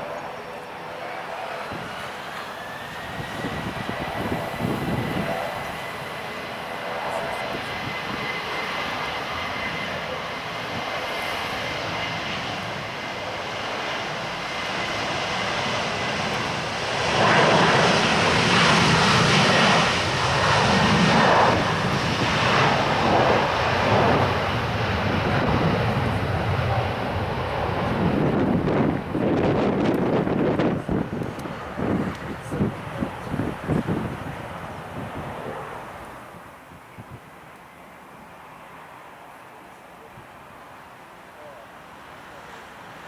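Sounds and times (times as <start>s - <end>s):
jet engines droning: 0.0s - 43.0s
wind buffeting microphone: 1.6s - 2.1s, 2.7s - 37.3s.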